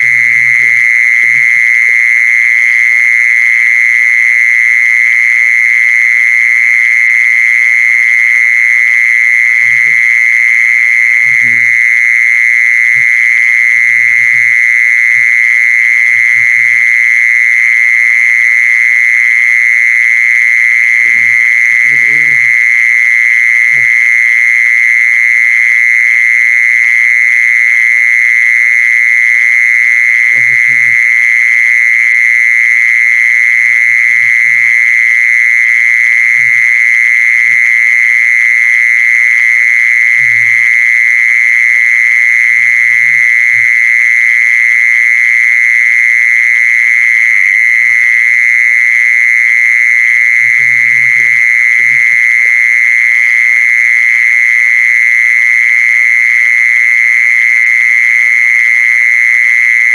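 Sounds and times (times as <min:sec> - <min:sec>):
mole cricket high trill: 0:00.0 - 0:59.9.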